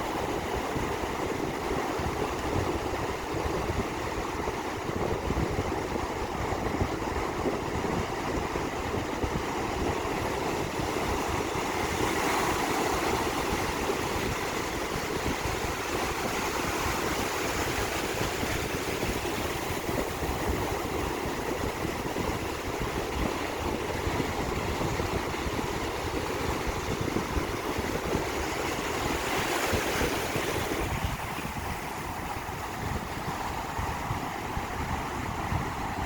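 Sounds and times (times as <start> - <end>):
ocean surf washing onto beach: 0.0 - 36.0.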